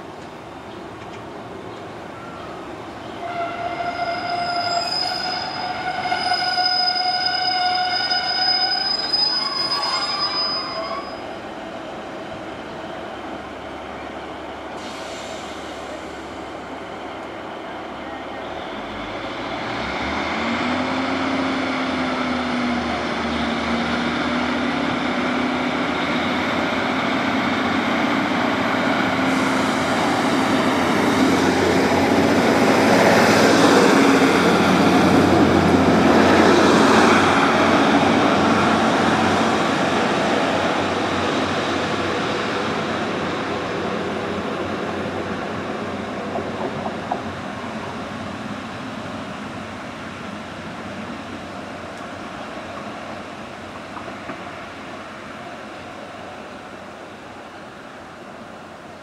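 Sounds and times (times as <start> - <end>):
diesel train engine: 0.0 - 59.0
wheels rumbling on rail: 0.0 - 59.0.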